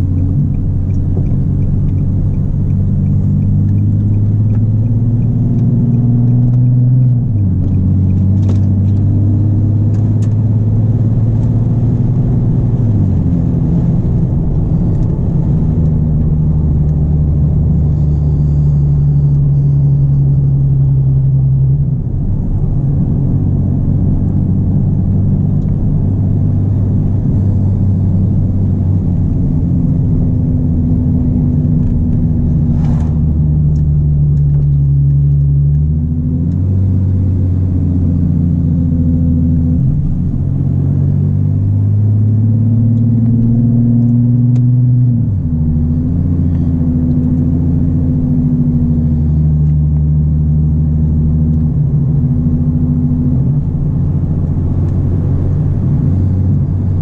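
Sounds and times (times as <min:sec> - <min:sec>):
car engine drone from inside cabin: 0:00.0 - 0:57.0.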